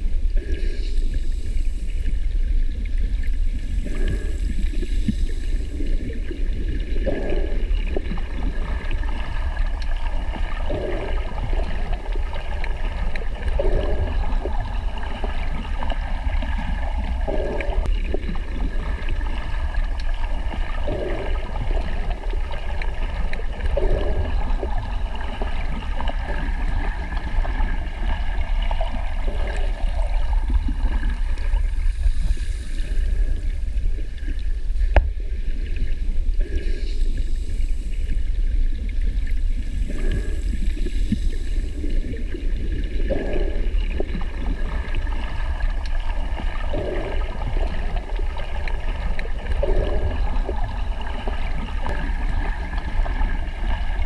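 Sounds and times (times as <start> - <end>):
low underwater rumble: 0.0 - 54.0
water gurgling: 0.0 - 54.0.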